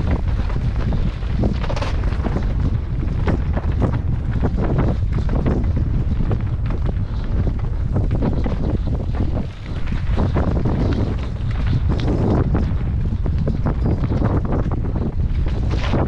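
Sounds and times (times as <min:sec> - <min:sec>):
bike knocks and rattles: 0:00.0 - 0:16.0
wind buffeting microphone: 0:00.0 - 0:16.0.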